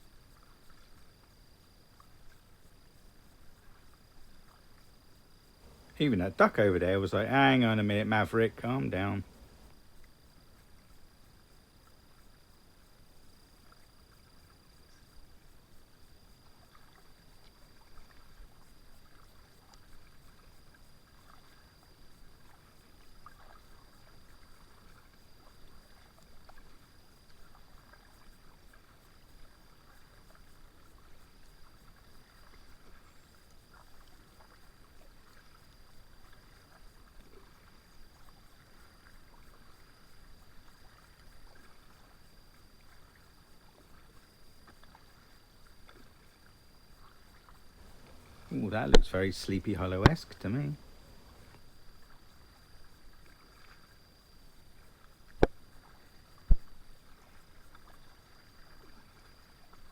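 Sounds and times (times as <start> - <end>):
kayak paddle splashing water: 5.5 - 10.9, 16.3 - 59.9.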